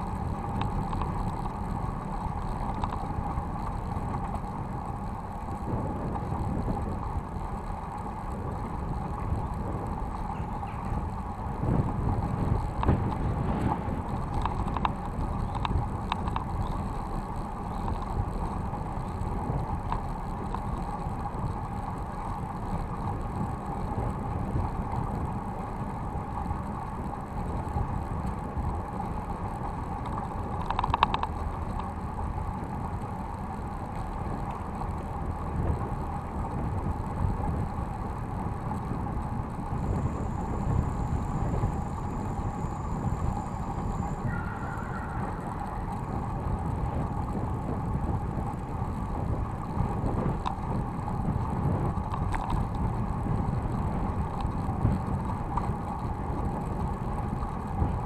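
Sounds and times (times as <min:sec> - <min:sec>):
bike clicks and rattles: 0:00.0 - 0:58.0
bike tyre and road rumble: 0:00.0 - 0:58.0.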